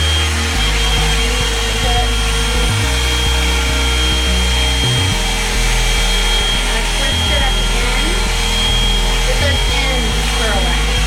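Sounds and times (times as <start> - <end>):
hair dryer brush whirring: 0.0 - 11.0.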